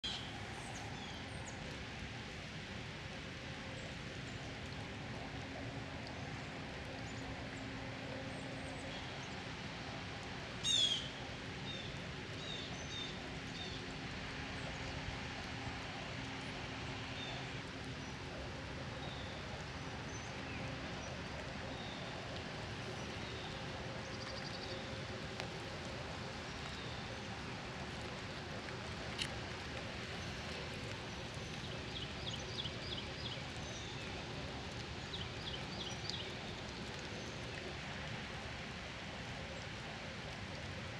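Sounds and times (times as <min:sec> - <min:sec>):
steady background noise: 0:00.0 - 0:40.9.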